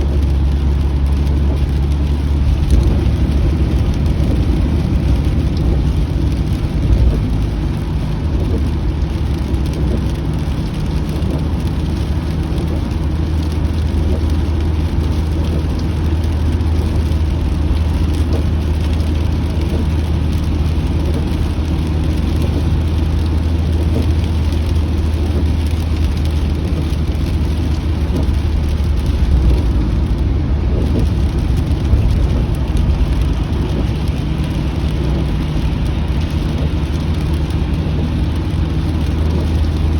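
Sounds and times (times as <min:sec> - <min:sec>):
car road and engine rumble: 0:00.0 - 0:39.9
rain pattering on car: 0:00.0 - 0:39.9.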